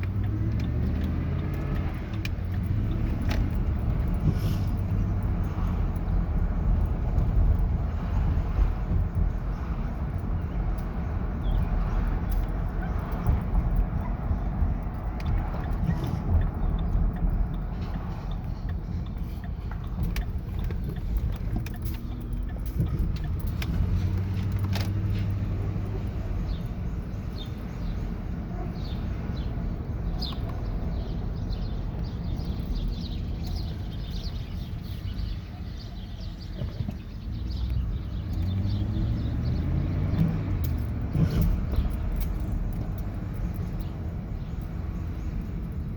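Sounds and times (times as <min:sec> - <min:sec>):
engine running with low rumble: 0:00.0 - 0:45.9.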